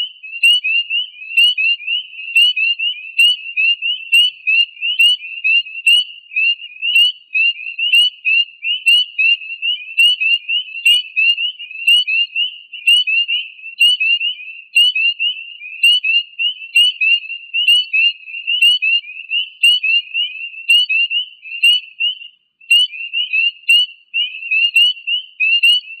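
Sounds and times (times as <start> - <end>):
chorus of frog peeps: 0.0 - 26.0.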